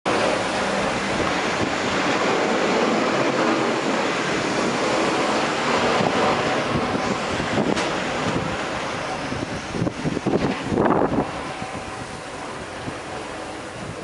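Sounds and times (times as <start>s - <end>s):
blizzard wind blowing: 0.1s - 14.0s.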